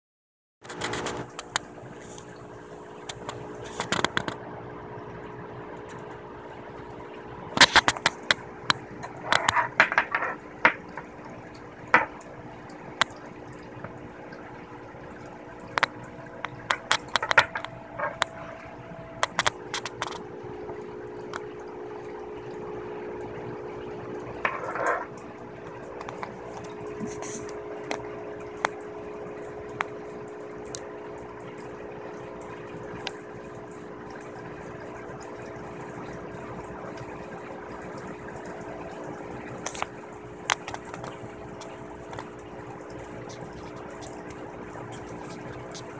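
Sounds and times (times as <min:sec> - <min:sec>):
steady low hum: 0:00.7 - 0:45.9.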